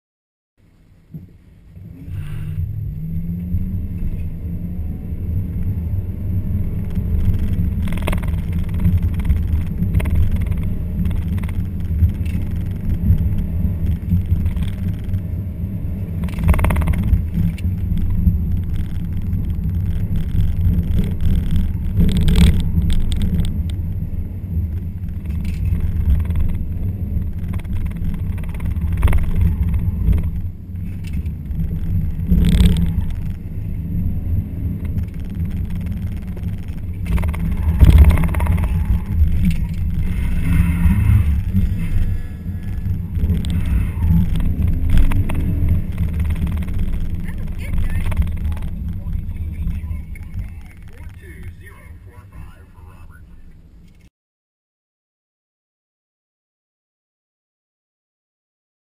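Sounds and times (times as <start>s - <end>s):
car engine revving: 1.8s - 53.6s.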